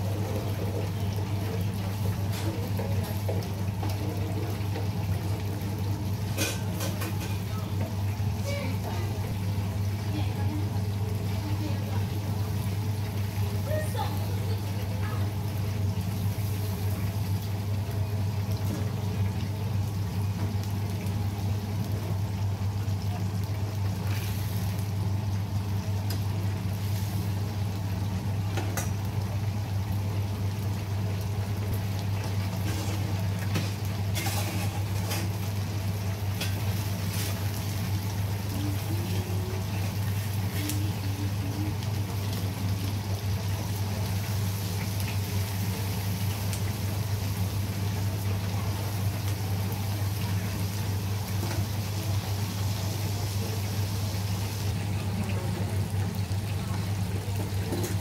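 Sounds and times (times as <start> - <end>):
chicken deep-frying in oil: 0.0 - 58.0.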